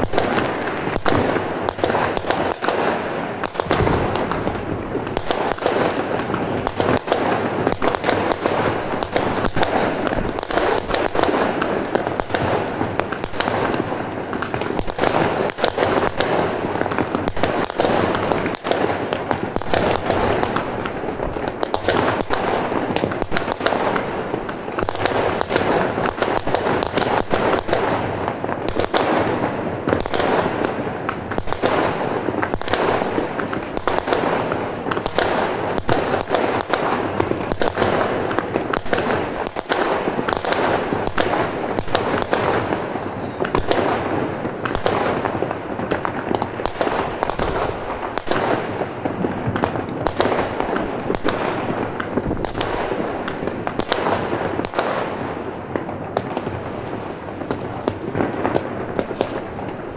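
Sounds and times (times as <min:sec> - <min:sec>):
fireworks and firecrackers barrage: 0:00.0 - 0:59.9.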